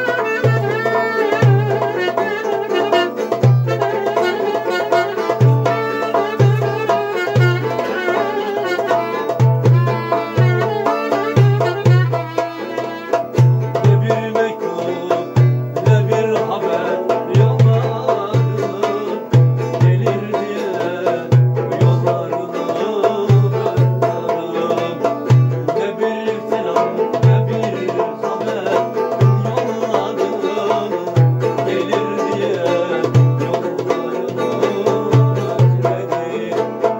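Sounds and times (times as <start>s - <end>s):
deep drum beats: 0.0s - 36.9s
plucked saz folk tune: 0.0s - 36.9s.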